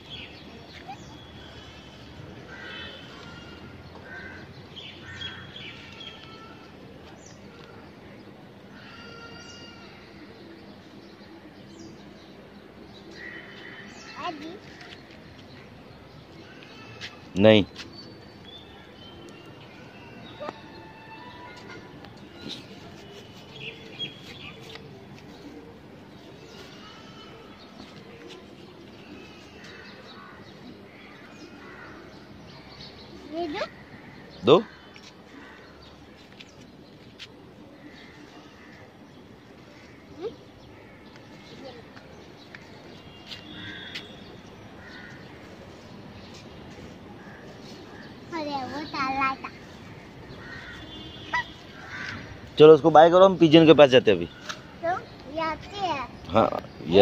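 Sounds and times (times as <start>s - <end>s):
birds chirping: 0.0s - 57.0s
outdoor background noise: 0.0s - 57.0s.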